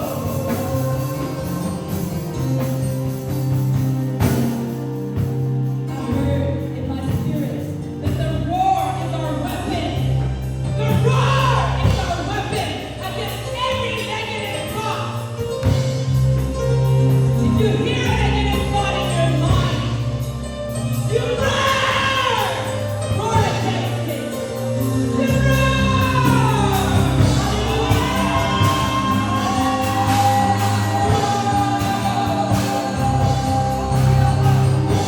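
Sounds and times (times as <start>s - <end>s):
band playing: 0.0s - 35.0s
voices singing gospel music: 0.0s - 35.0s.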